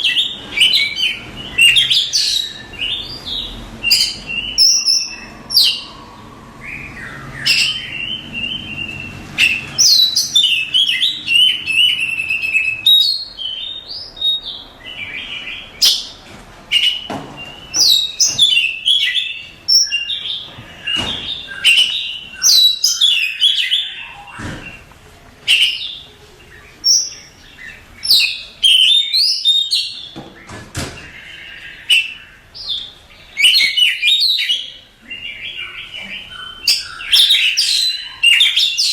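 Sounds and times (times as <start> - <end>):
bird singing whistled phrases: 0.0 - 24.4, 26.8 - 30.2, 31.2 - 38.9.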